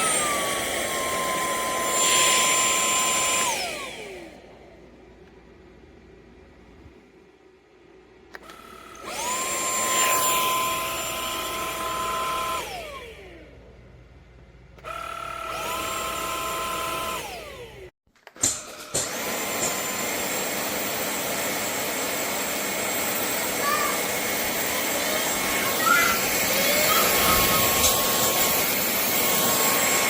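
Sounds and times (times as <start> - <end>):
stick vacuum motor whining: 0.0 - 5.4, 8.3 - 13.7, 14.8 - 30.0.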